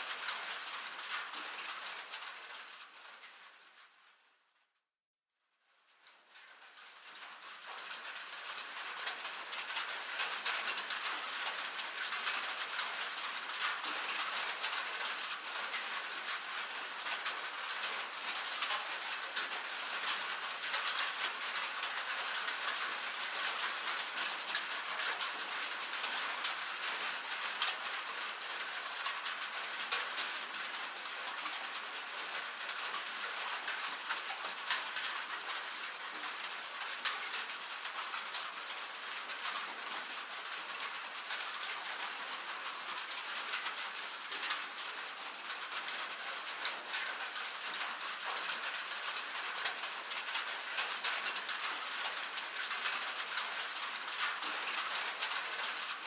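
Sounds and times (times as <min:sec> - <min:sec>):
rain drumming on a metal roof: 0:00.0 - 0:04.2, 0:05.9 - 0:56.0.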